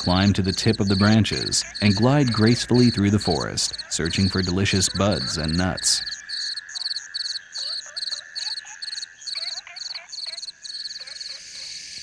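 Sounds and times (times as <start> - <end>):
frogs short rising calls: 0.0 - 11.9
insect chirps: 0.0 - 12.0
steady high insect whine: 0.0 - 12.0.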